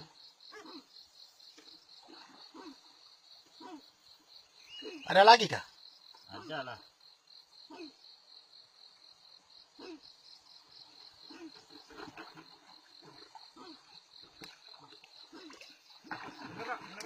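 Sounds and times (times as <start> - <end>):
high-pitched insect trill: 0.0 - 17.0.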